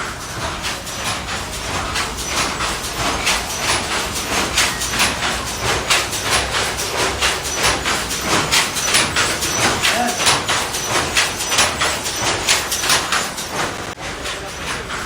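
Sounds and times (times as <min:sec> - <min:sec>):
handloom clacking: 0:00.0 - 0:15.0.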